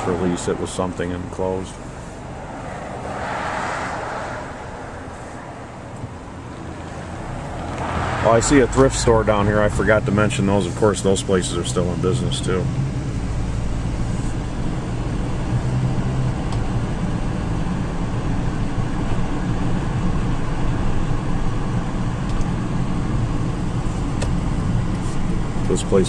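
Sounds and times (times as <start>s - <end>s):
car engine and tyre noise: 0.0s - 26.0s.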